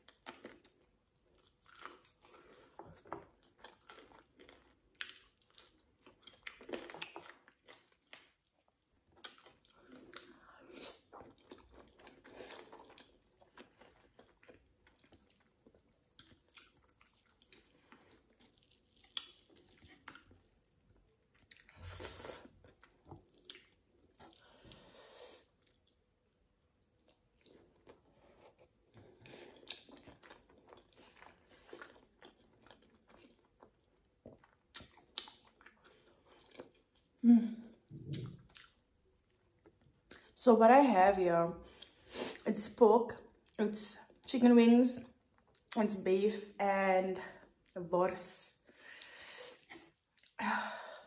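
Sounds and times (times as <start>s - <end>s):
person chewing food: 0.0s - 40.4s, 41.7s - 42.4s, 49.6s - 50.4s.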